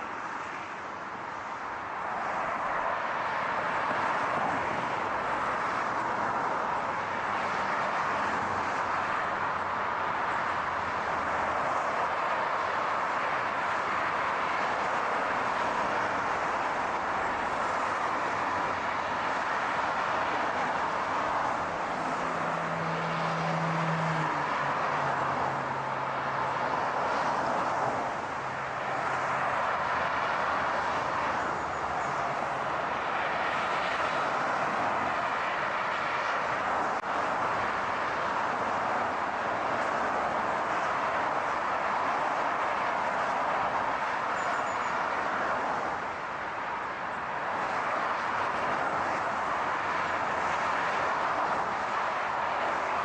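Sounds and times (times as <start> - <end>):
car road and tyre noise: 0.0 - 53.0.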